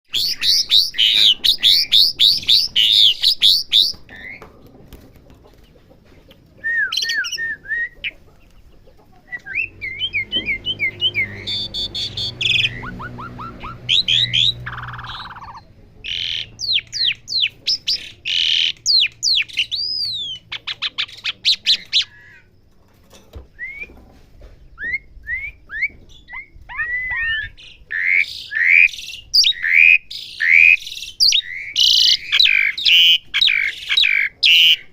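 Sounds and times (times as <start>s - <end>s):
starling singing: 0.1s - 4.5s, 6.6s - 22.5s, 25.7s - 34.9s.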